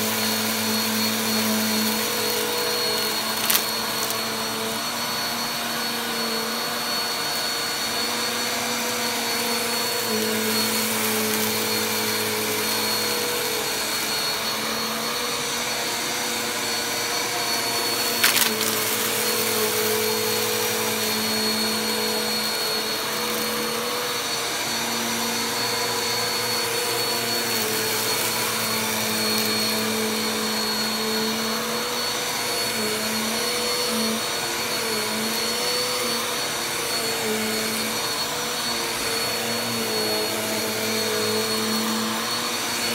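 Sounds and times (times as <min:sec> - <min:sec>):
vacuum cleaner running on carpet: 0:00.0 - 0:42.9.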